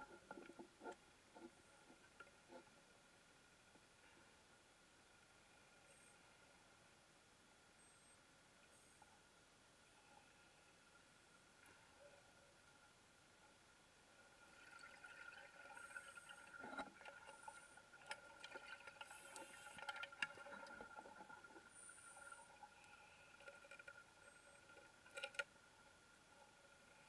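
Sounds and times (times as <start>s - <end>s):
soft clicks and crackles: 0.0s - 6.9s, 7.8s - 27.0s.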